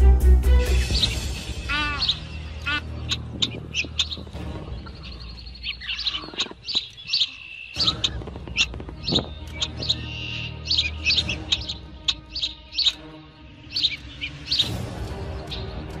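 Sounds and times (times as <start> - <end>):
birds chirping: 0.6 - 16.0
bird trills: 0.8 - 16.0.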